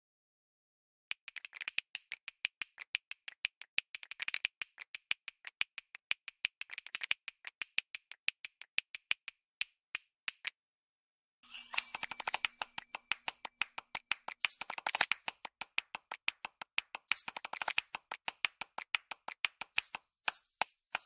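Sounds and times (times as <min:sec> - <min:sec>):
sharp percussive clicks: 0:01.1 - 0:10.6, 0:11.6 - 0:21.0.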